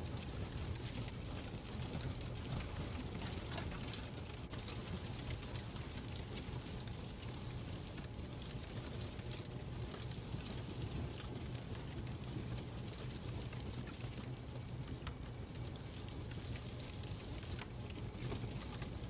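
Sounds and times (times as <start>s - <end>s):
fireplace crackling: 0.0s - 19.0s.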